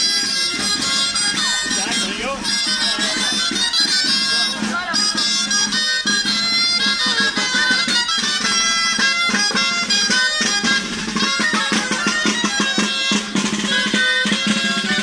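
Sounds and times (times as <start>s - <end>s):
high folk pipes playing: 0.0s - 15.0s
steady drum beat: 0.0s - 15.0s.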